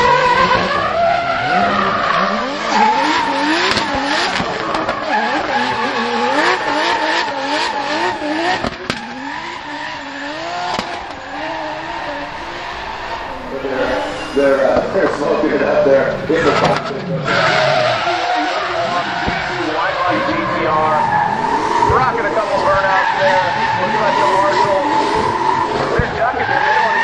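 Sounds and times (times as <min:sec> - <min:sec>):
car engine revving: 0:00.0 - 0:27.0
tyres screeching: 0:00.0 - 0:27.0.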